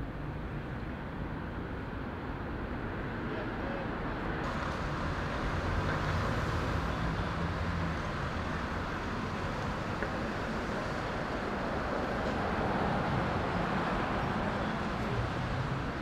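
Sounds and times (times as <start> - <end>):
low engine hum: 0.0 - 16.0
road traffic noise: 0.0 - 16.0.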